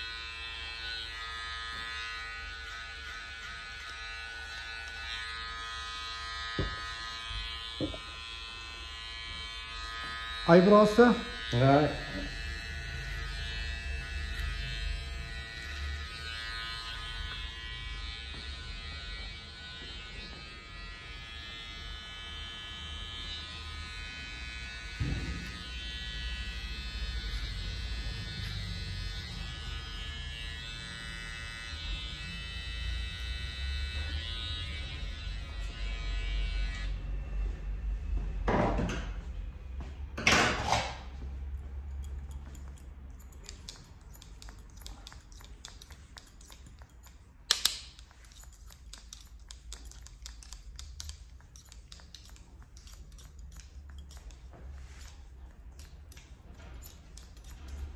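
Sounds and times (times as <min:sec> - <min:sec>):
cordless clipper buzzing: 0:00.0 - 0:36.8, 0:42.0 - 0:57.9.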